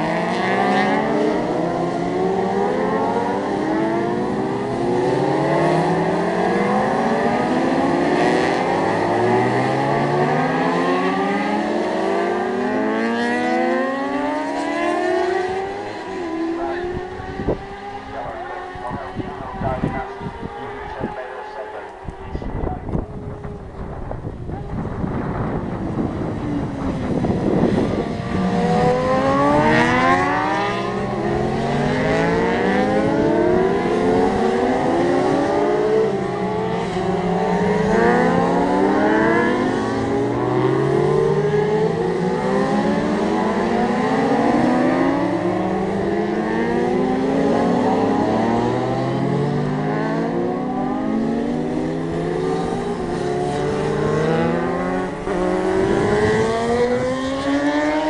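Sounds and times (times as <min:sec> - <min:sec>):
motorcycle passing by: 0:00.0 - 0:58.0
racing motorcycles revving: 0:00.0 - 0:58.0.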